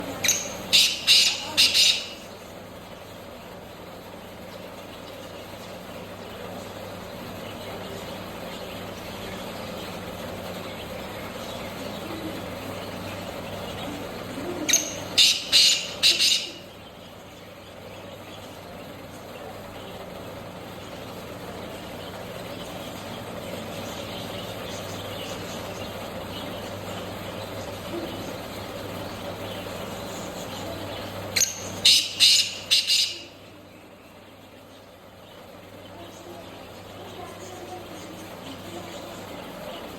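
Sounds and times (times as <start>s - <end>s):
francolin calling: 0.0s - 39.9s
low background noise: 0.0s - 39.9s.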